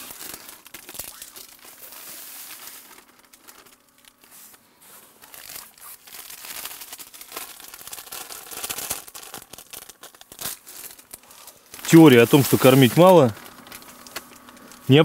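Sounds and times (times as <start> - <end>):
foil packet crinkling: 0.0 - 15.0
small crackles: 0.0 - 15.0.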